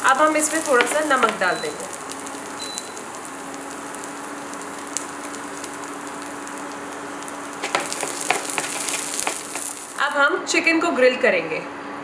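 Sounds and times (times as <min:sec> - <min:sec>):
vegetables sizzling in oil: 0:00.0 - 0:10.2.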